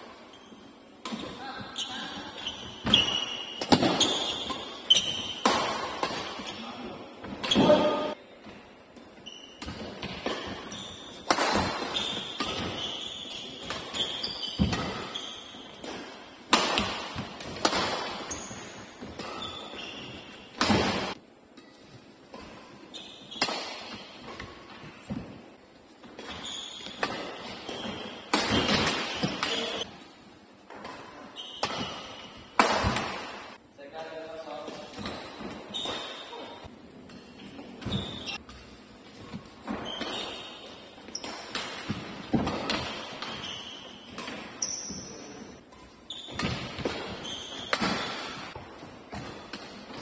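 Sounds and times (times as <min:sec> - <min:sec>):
court shoes squeaking: 0:00.0 - 0:30.0, 0:30.6 - 0:50.0
racket hitting shuttlecock: 0:01.0 - 0:01.4, 0:02.0 - 0:08.2, 0:09.0 - 0:25.4, 0:26.0 - 0:30.0, 0:30.6 - 0:33.6, 0:34.6 - 0:50.0.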